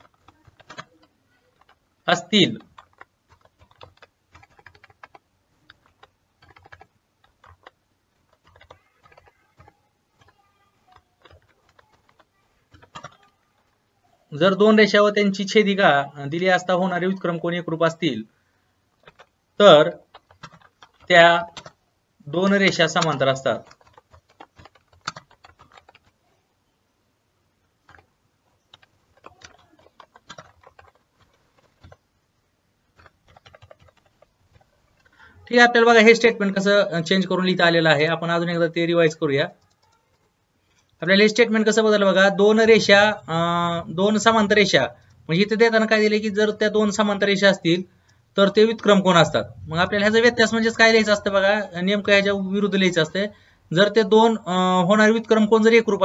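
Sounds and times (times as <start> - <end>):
typing on keyboard: 0.0 - 13.7, 19.0 - 21.8, 22.4 - 26.4, 27.7 - 32.2, 32.8 - 56.0.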